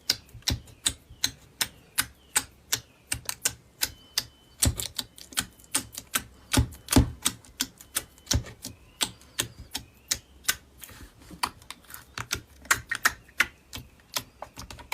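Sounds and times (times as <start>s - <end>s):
slime clicking and popping: 0.0s - 10.6s, 12.2s - 14.8s.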